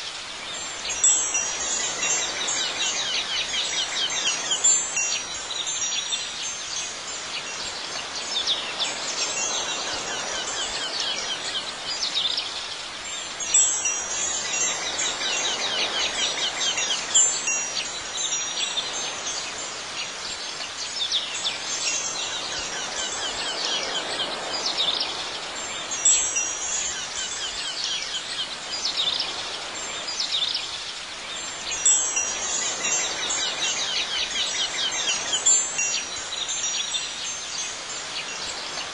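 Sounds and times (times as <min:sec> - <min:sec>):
soft steady hiss: 0:00.0 - 0:38.9
wind chimes tinkling: 0:00.0 - 0:38.9.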